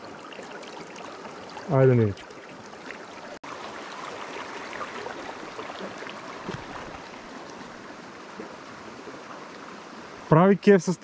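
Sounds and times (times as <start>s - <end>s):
small water splashes: 0.0s - 9.8s
stream running over stones: 0.0s - 11.0s.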